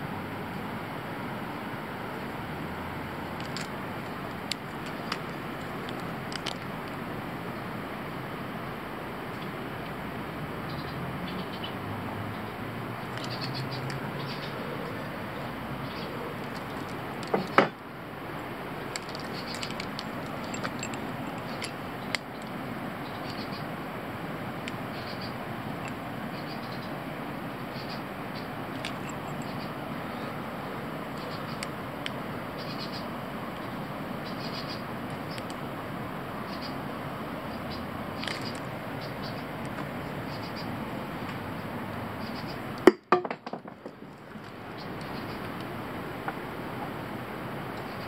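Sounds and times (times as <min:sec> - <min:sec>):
steady background hiss: 0:00.0 - 0:48.0.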